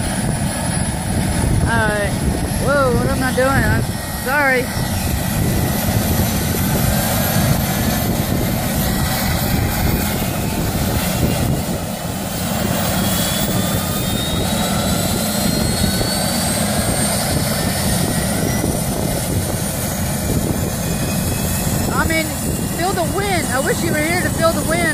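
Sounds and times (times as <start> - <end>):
helicopter rotor and engine: 0.0 - 24.9.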